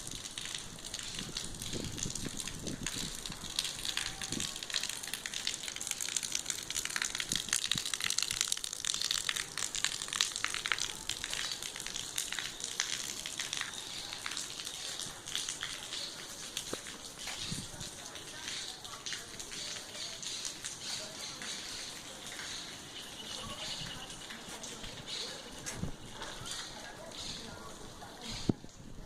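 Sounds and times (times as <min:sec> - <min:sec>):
water running and dripping: 0:00.0 - 0:28.8.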